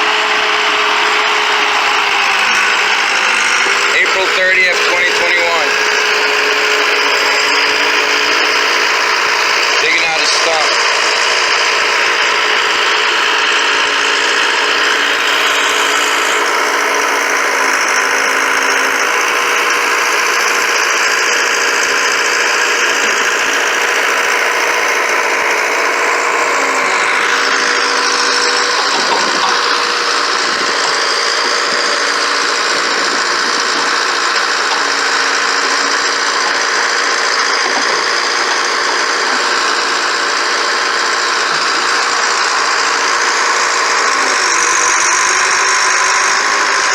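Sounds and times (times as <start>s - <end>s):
backhoe engine running: 0.0s - 46.9s.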